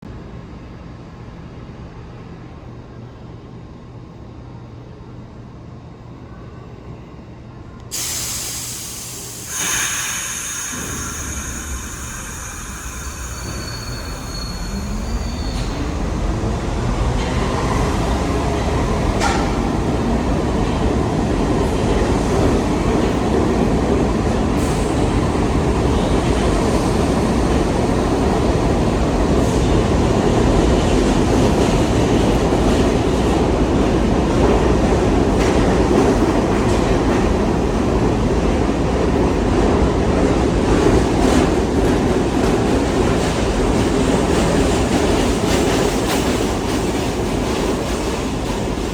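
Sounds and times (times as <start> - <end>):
train rumble with rail clatter: 0.0 - 48.9
subway train motor whine: 0.1 - 48.9.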